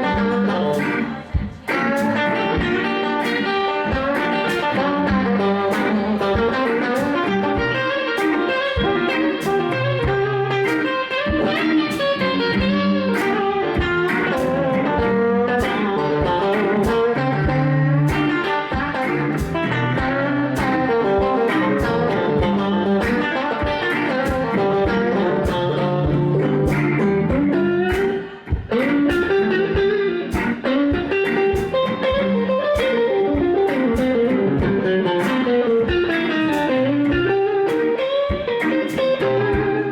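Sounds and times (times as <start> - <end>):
electric blues band playing: 0.0 - 39.9
electric guitar lead: 0.0 - 39.9.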